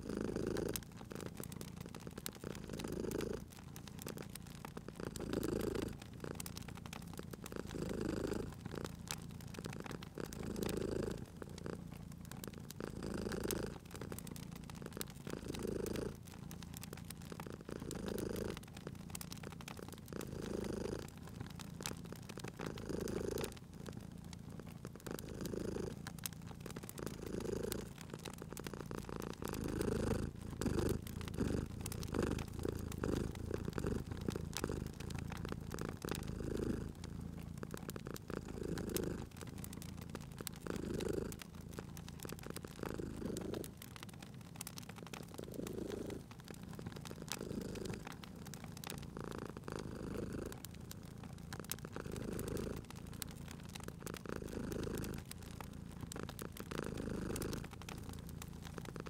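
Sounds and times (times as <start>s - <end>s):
cat purring: 0.0s - 59.0s
wood fire crackling: 0.0s - 59.0s.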